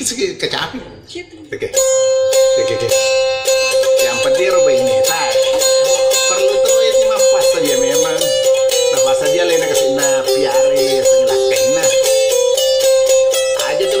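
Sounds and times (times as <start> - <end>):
lute plucking: 1.6 - 14.0.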